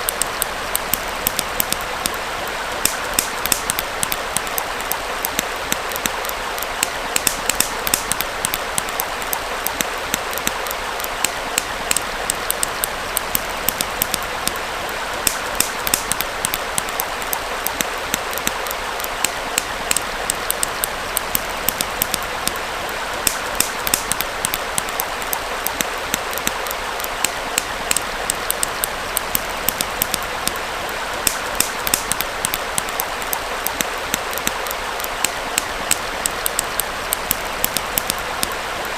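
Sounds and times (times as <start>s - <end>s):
campfire crackling and popping: 0.0s - 38.9s
small stream rushing: 0.0s - 38.9s.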